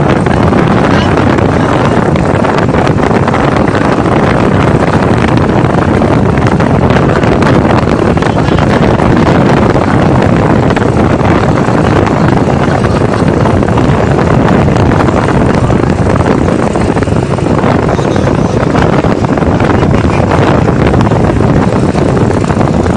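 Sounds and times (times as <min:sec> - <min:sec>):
motorbike engines running: 0:00.0 - 0:22.9
wind on microphone: 0:00.0 - 0:22.9.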